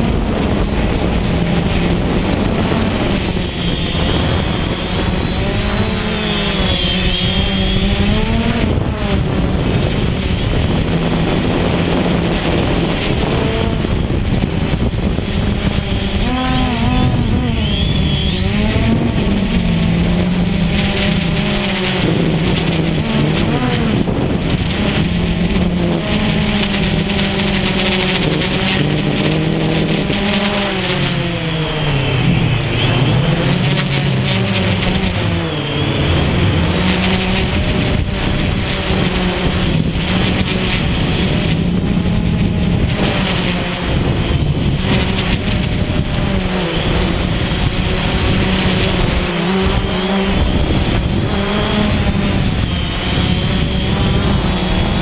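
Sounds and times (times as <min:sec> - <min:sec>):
drone motors whirring: 0:00.0 - 0:55.0.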